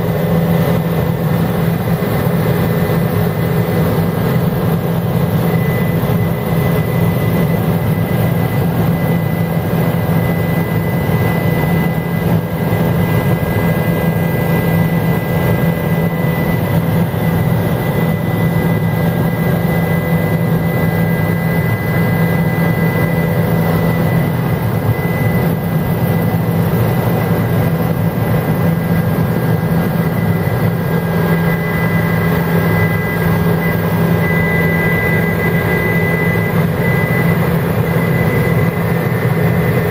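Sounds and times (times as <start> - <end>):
helicopter rotor and engine drone: 0.0 - 39.9
high whine: 0.0 - 39.9.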